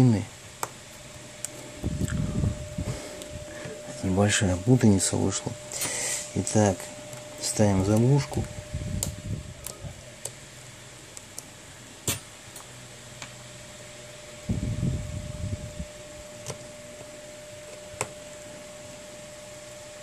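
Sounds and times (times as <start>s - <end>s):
fan-like hum: 0.0s - 20.0s.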